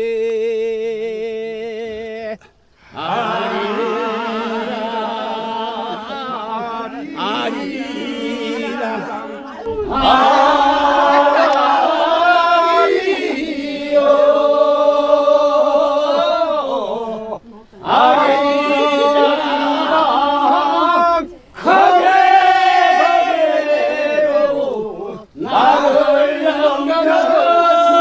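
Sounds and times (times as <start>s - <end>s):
group singing unaccompanied: 1.0s - 28.0s.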